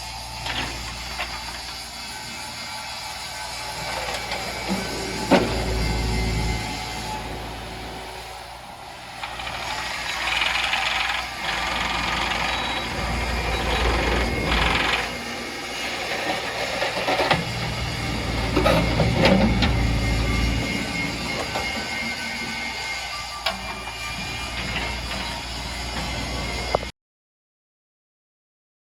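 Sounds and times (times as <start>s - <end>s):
mini excavator diesel engine: 0.0s - 26.9s.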